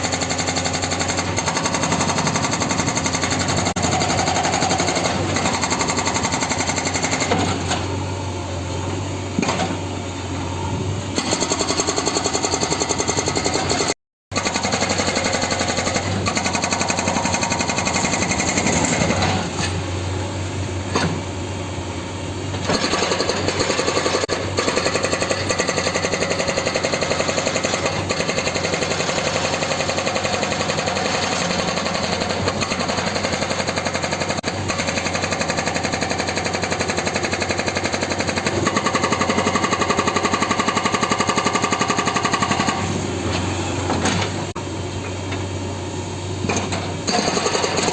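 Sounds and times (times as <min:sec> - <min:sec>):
hydraulic rock breaker hammering: 0:00.0 - 0:08.0, 0:11.2 - 0:19.8, 0:22.5 - 0:44.6, 0:46.4 - 0:47.9.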